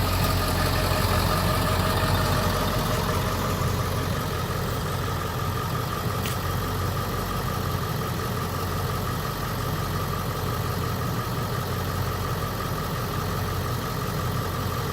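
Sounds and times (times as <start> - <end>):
diesel truck engine idling: 0.0 - 14.9.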